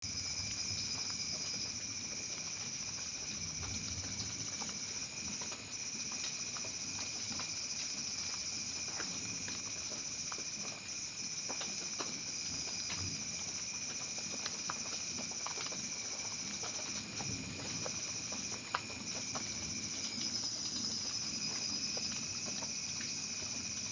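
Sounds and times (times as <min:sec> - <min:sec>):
raindrops pattering: 0:00.0 - 0:23.9
steady rain hiss: 0:00.0 - 0:23.9.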